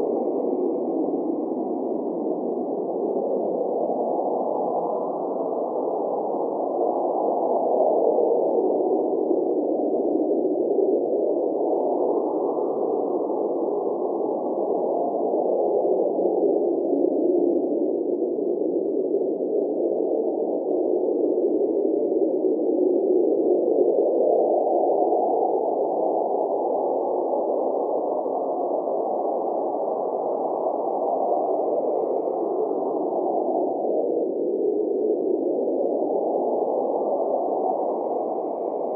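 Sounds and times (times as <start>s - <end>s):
blizzard wind blowing: 0.0s - 38.9s.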